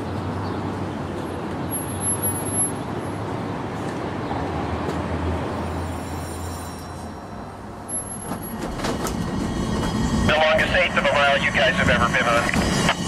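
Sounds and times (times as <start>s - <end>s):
rail car rumbling on rails: 0.0s - 13.0s.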